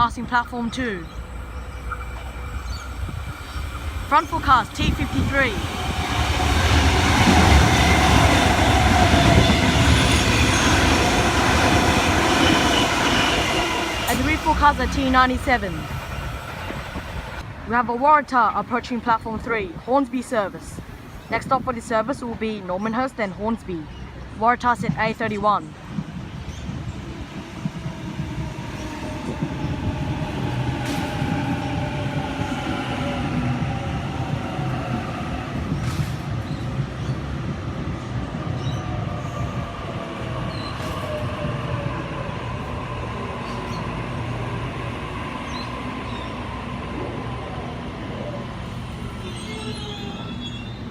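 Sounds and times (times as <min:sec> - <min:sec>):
electric train passing: 0:00.6 - 0:17.7, 0:25.8 - 0:50.9.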